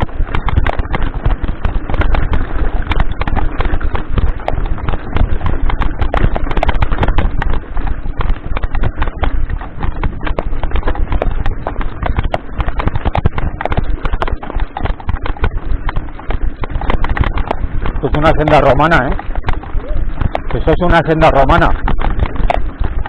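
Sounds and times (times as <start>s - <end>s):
mountain bike rattling over rocks: 0.0s - 23.0s
steady low rumble: 0.0s - 23.0s.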